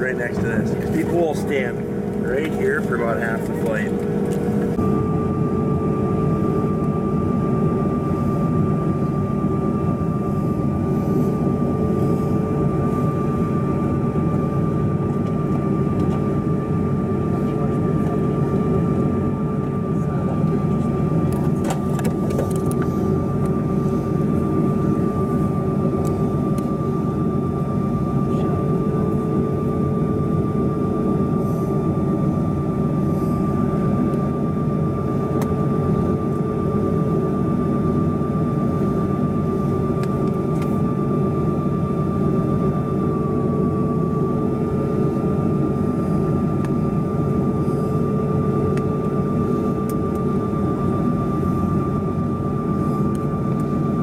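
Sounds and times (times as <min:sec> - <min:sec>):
aircraft cabin rumble: 0:00.0 - 0:54.0
steady high whine: 0:00.0 - 0:54.0.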